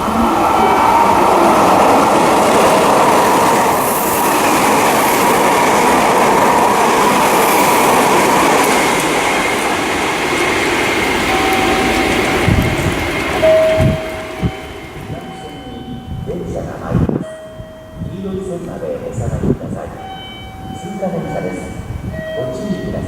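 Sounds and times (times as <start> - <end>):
electric train passing at speed: 0.0 - 23.0.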